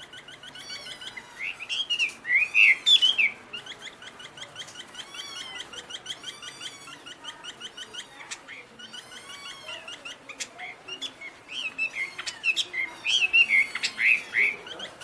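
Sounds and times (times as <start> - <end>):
bird whistled song: 0.0 - 15.0.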